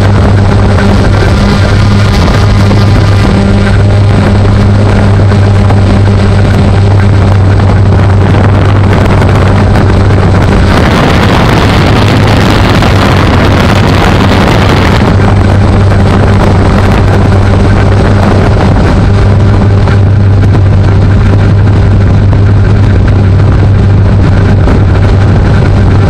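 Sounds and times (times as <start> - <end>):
drone propellers humming: 0.0 - 26.0
wind buffeting microphone: 0.0 - 26.0.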